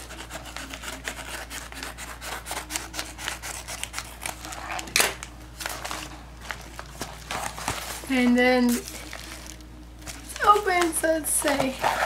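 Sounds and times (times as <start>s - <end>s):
paper and tape crackling: 0.0s - 12.0s.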